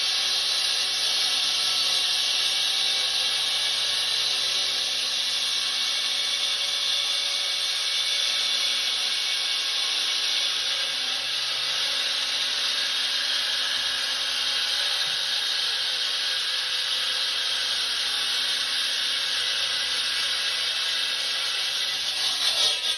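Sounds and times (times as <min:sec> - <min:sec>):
concrete saw running: 0:00.0 - 0:22.9.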